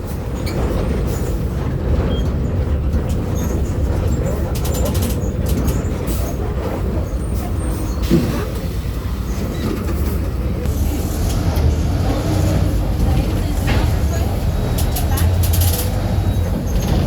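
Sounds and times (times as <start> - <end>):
diesel engine rumble: 0.0 - 17.0
road and body rattle: 0.0 - 17.0.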